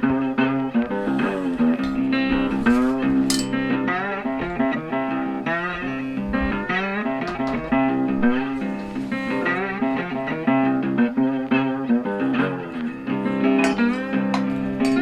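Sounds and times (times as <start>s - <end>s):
plucked blues guitar: 0.0s - 15.0s.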